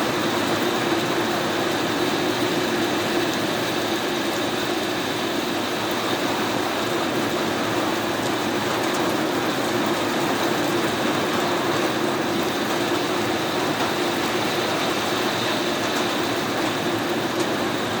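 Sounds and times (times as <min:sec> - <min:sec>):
heavy rain on a house: 0:00.0 - 0:18.0.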